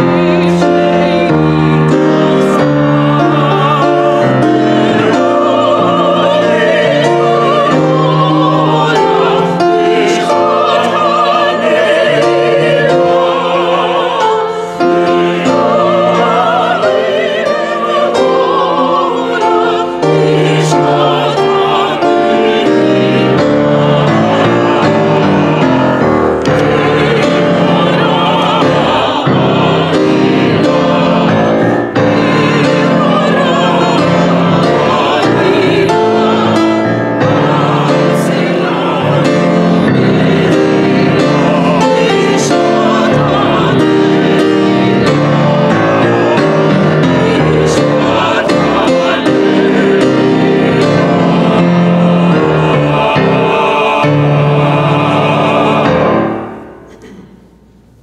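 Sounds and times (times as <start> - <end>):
mixed choir singing: 0.0 - 57.2
piano accompaniment: 0.0 - 58.0.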